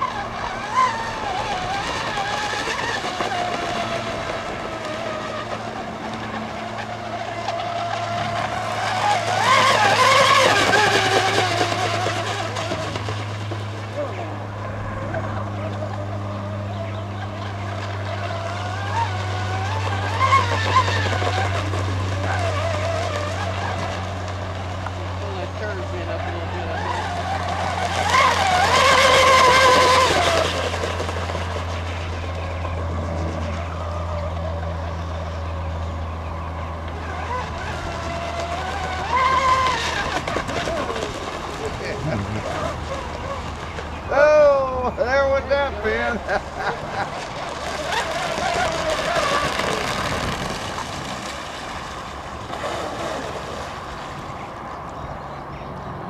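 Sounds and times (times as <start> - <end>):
water splashing: 0.0 - 55.3
electric speedboat motor whine: 0.0 - 56.0.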